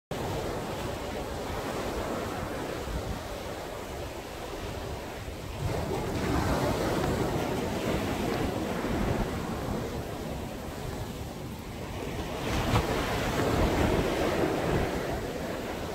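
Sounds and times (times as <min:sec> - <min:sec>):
sea waves breaking on beach: 0:00.1 - 0:15.9.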